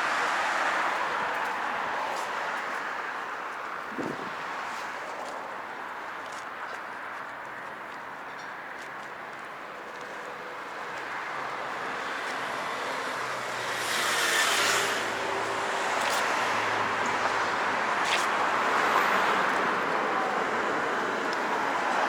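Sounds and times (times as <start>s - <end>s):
vehicles passing: 0.0s - 6.1s, 9.7s - 22.0s.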